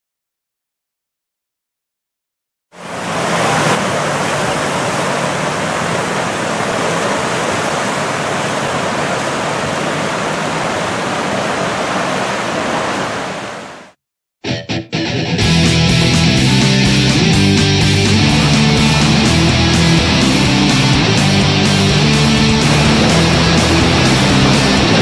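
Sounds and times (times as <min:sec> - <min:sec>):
river rapids rushing: 0:02.8 - 0:13.9, 0:16.1 - 0:25.0.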